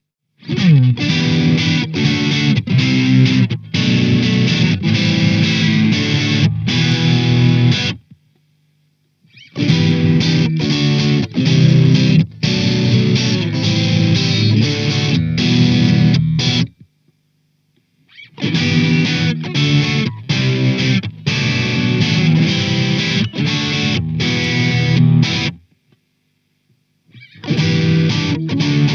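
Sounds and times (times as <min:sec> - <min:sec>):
distorted electric guitar riffs: 0:00.4 - 0:08.2, 0:09.2 - 0:17.2, 0:17.9 - 0:26.0, 0:27.0 - 0:28.9.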